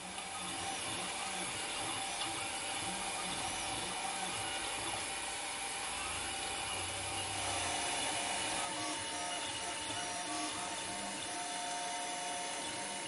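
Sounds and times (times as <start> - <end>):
stepper motors whirring: 0.0 - 13.0.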